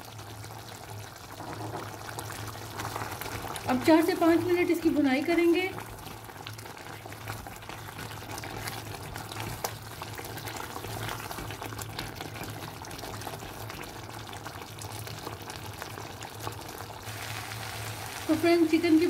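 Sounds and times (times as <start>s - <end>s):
gravy bubbling and sizzling: 0.0s - 19.0s.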